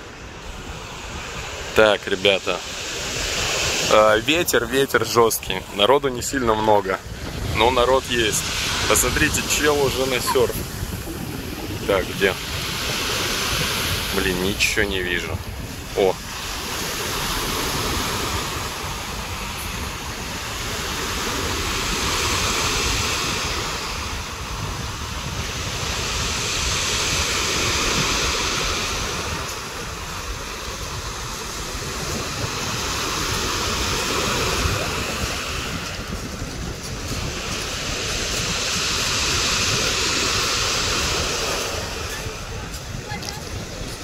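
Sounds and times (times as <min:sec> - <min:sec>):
sea surf washing ashore: 0:00.0 - 0:44.0
wind on microphone: 0:00.0 - 0:44.0.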